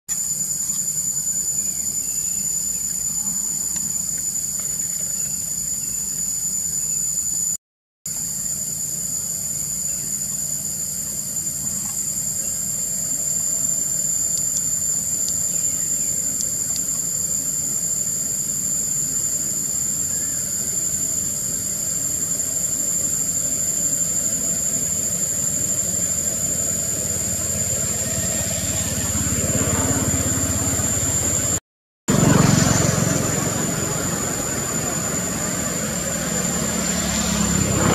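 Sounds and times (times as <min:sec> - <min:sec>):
high-pitched insect drone: 0:00.1 - 0:37.9.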